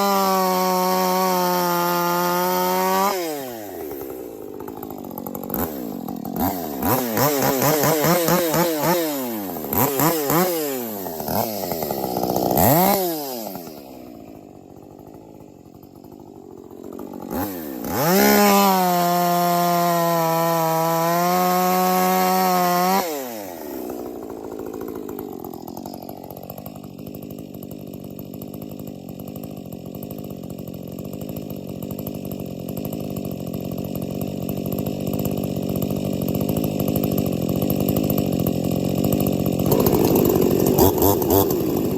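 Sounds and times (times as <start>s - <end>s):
chainsaw revving and idling: 0.0s - 41.9s.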